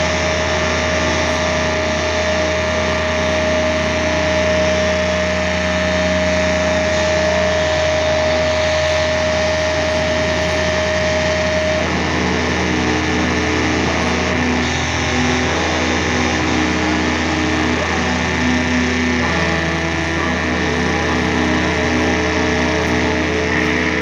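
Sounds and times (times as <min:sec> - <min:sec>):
distorted guitar and bass drone: 0:00.0 - 0:24.0
high feedback tone: 0:00.0 - 0:24.0.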